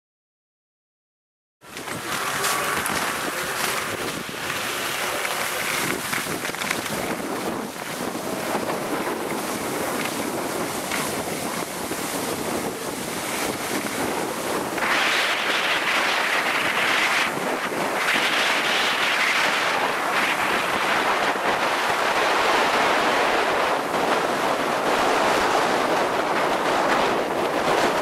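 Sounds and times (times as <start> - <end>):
wind buffeting microphone: 1.6 - 28.0
skis scraping on snow: 1.7 - 28.0.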